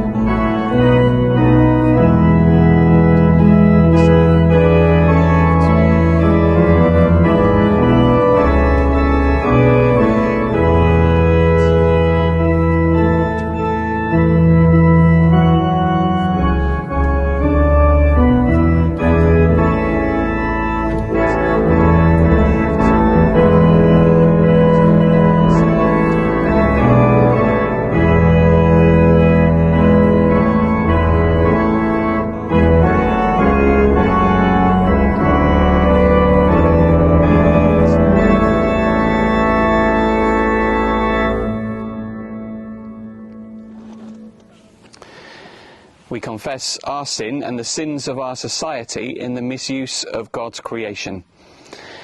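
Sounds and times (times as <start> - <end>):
organ playing sustained chords: 0.0 - 49.8.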